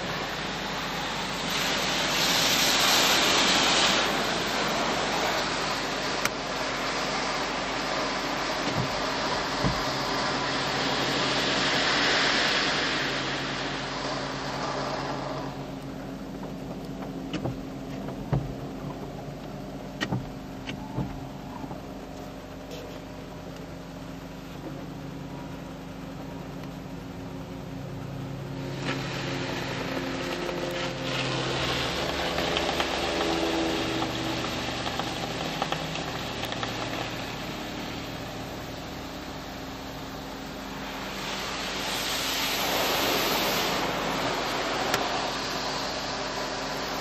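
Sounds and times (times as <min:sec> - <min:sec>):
low machinery hum: 0:00.0 - 0:47.0
water jets spraying on car: 0:00.0 - 0:47.0.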